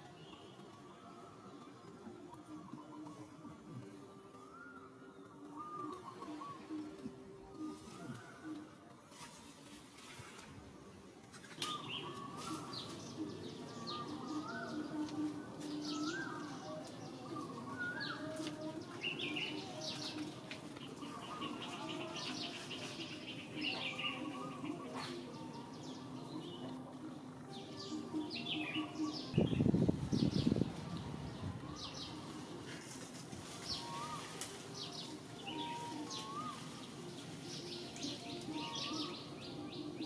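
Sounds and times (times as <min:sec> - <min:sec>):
outdoor background: 0:00.0 - 0:40.0
birds chirping and trilling: 0:00.1 - 0:40.0.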